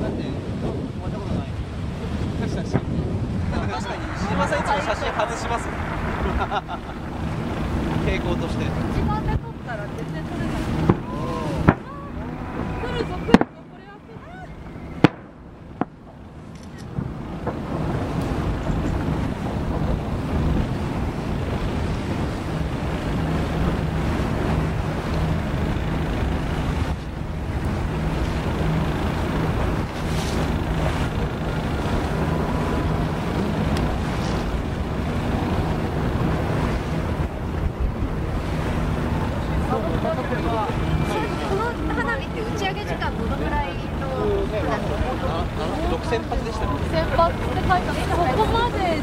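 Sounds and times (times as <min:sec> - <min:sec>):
boat engine humming: 0:00.0 - 0:49.0
rushing water: 0:00.0 - 0:49.0
wind buffeting microphone: 0:00.0 - 0:49.0.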